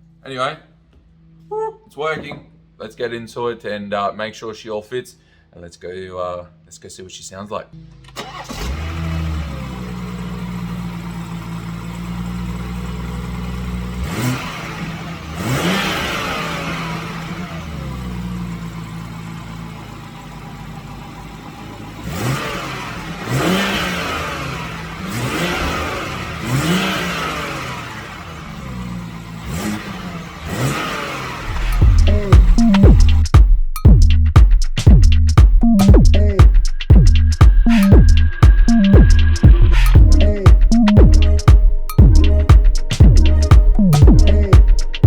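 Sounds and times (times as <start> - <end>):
car engine idling and revving: 8.1 - 45.0.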